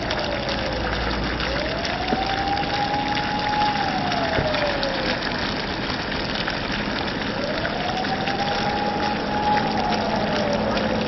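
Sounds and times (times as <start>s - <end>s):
siren wailing: 0.0s - 5.4s, 7.4s - 11.0s
water gushing along gutter: 0.0s - 11.0s.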